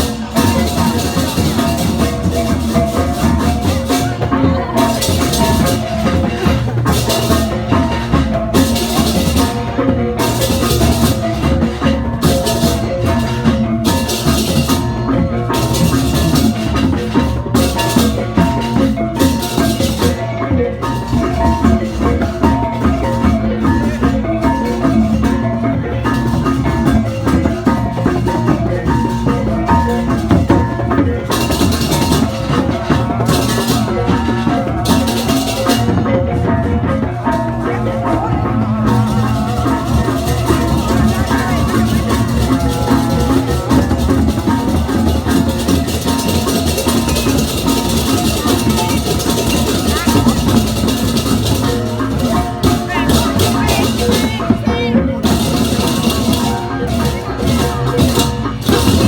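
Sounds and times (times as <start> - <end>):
clashing cymbals: 0.0 - 54.6
gamelan music: 0.0 - 59.0
ringing gongs: 0.0 - 59.0.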